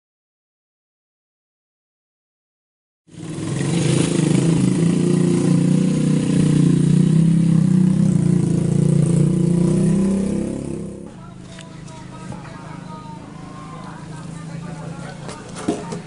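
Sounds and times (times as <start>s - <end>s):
motorcycle engine running: 3.1s - 16.0s.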